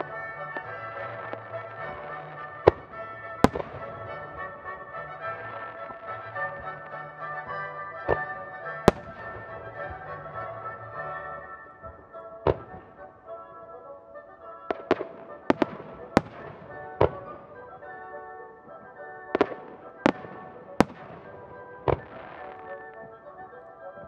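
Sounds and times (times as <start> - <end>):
fireworks bursting in sharp bangs: 0.0 - 13.1, 14.7 - 23.4
music playing: 0.0 - 24.0.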